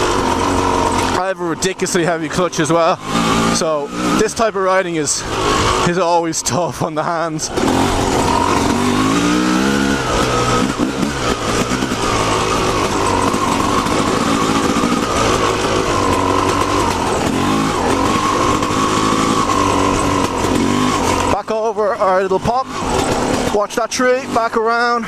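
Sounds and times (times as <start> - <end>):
two-stroke dirt bike engine: 0.0 - 25.0.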